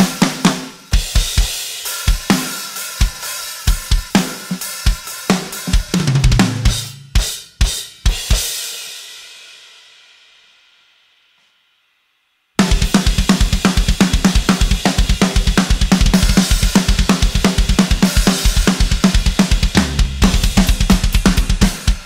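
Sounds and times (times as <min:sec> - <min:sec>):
drum kit groove: 0:00.0 - 0:09.8, 0:12.6 - 0:22.0.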